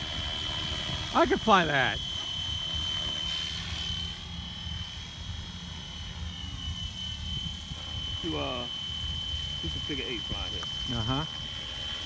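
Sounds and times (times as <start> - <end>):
rc helicopter whine: 0.0 - 12.0.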